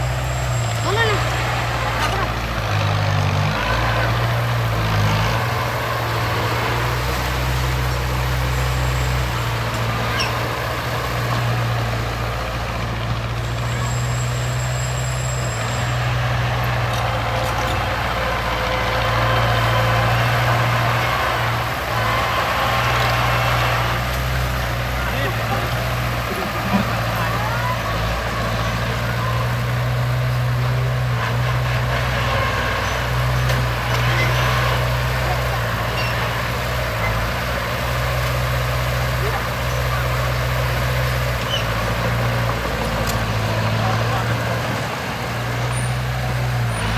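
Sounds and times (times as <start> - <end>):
heavy vehicle engine humming: 0.0 - 46.9.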